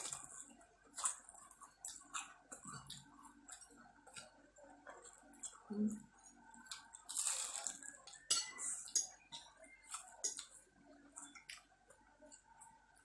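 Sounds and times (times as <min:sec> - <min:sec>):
people chewing and slurping: 0:00.0 - 0:13.0.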